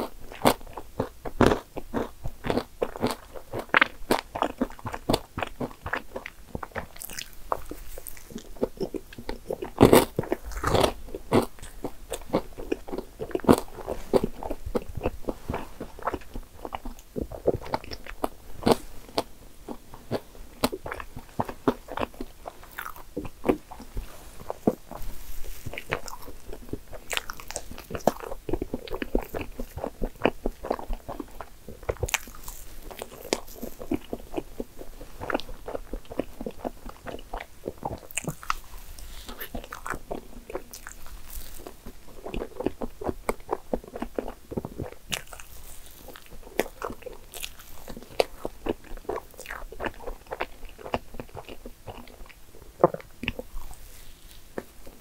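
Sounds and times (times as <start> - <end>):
biting and chewing: 0.0 - 55.0
crunchy bites: 0.0 - 55.0.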